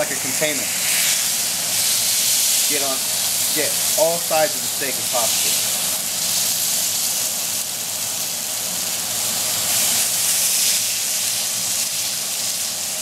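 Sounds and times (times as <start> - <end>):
steak sizzling in a skillet: 0.0 - 13.0.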